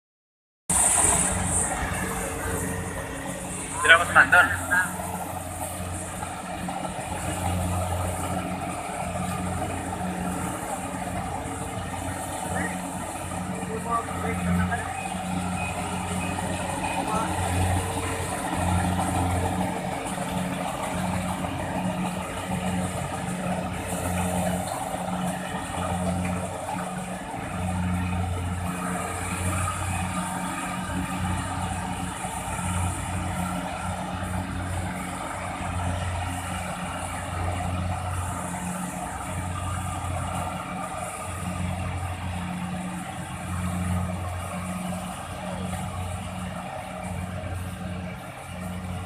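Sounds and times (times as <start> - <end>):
combine harvester running: 0.7 - 49.0.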